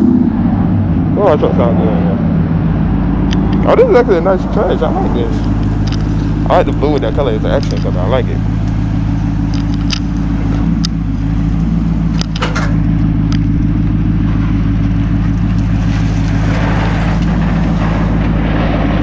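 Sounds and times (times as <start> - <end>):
pickup truck engine running: 0.0 - 19.0.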